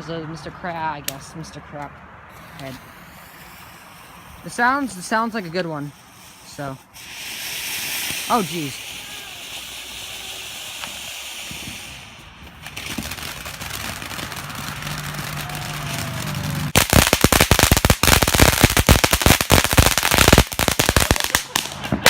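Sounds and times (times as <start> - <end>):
firework hissing: 2.3 - 22.0
firework rapid crackling: 2.4 - 22.0.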